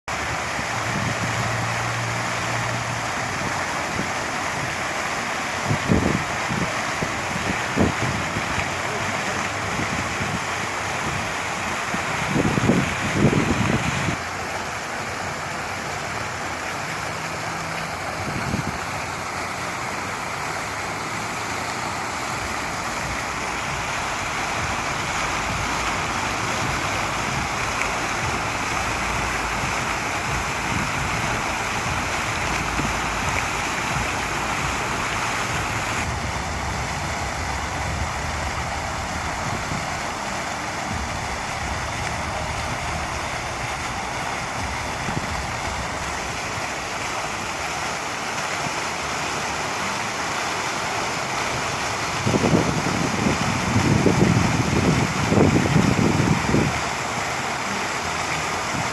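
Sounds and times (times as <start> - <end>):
fountain water splashing: 0.0 - 58.9.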